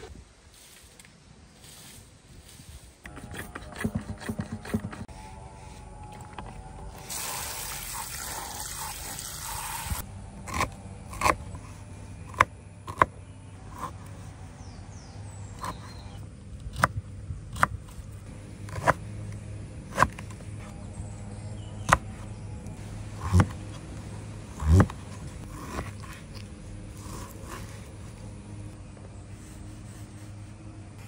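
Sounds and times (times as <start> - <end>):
low steady hum: 2.4 - 31.0.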